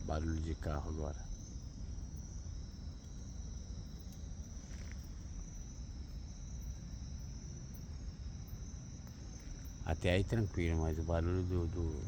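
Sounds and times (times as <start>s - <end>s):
constant low rumble: 0.0s - 12.0s
night insects trilling: 0.0s - 12.0s.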